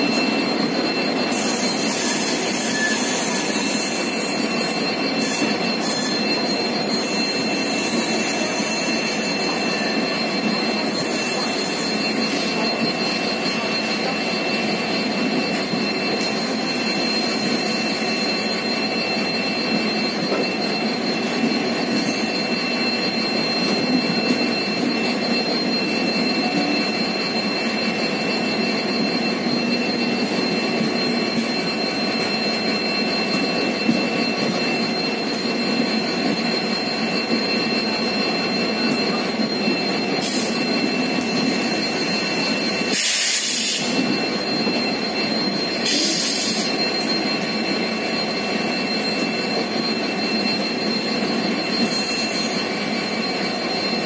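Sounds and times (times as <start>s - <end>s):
high-pitched whine: 0.0s - 54.0s
train wheels rumbling on rail: 0.0s - 54.0s.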